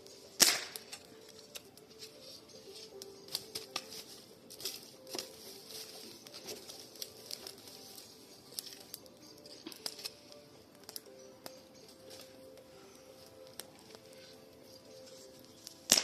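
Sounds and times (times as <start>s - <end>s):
campfire crackling: 0.0s - 16.0s
fire snaps and pops: 0.1s - 16.0s.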